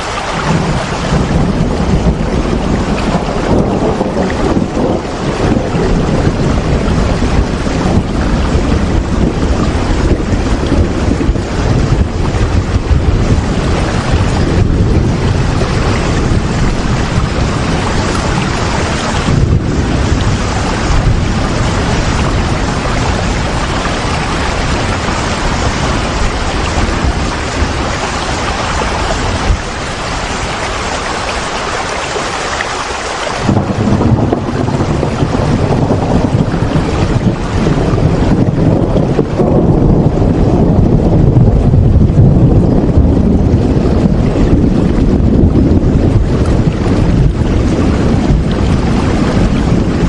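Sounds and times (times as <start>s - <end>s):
heavy rain: 0.0s - 50.0s.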